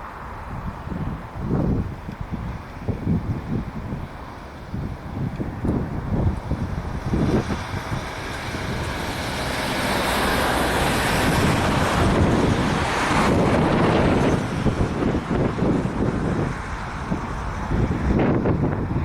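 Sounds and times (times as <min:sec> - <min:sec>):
jet aircraft taking off: 0:00.0 - 0:19.0
wind buffeting microphone: 0:00.0 - 0:19.0.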